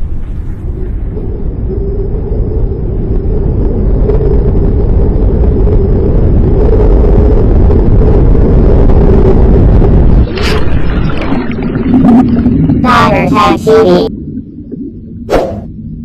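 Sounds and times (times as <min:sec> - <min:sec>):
deep rumbling rush: 0:00.0 - 0:16.0.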